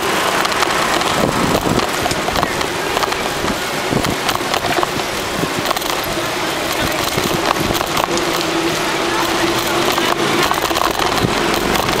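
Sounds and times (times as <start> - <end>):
bicycle clicks and rattles: 0.0 - 12.0
steady rush of air: 0.0 - 12.0.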